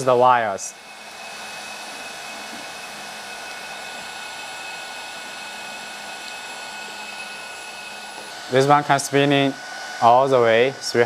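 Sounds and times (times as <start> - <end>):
hydraulic pump whirring: 0.0 - 11.0.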